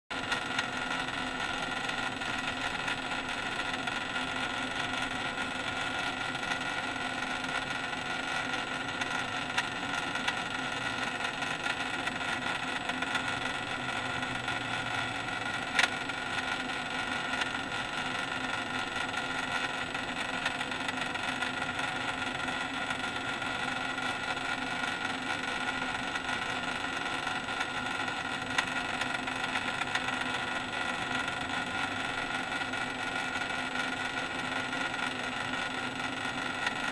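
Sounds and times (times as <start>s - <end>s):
small electric motor humming: 0.2s - 36.9s.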